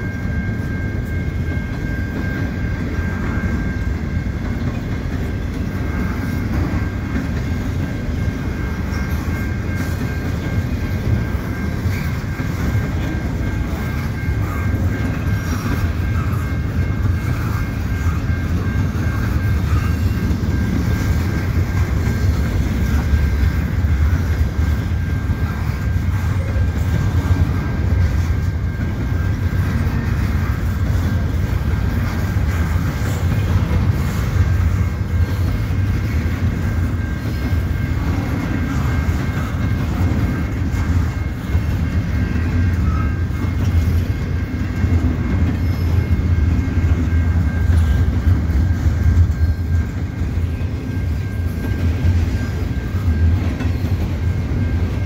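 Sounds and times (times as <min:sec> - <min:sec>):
low train rumble: 0:00.0 - 0:55.0
train wheels clattering: 0:00.0 - 0:55.0.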